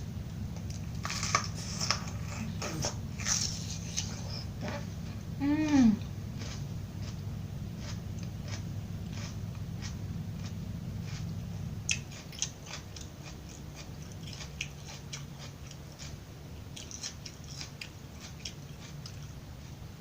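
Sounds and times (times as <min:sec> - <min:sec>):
low hum: 0:00.0 - 0:20.0
chewing crisp raw vegetables: 0:00.3 - 0:19.9.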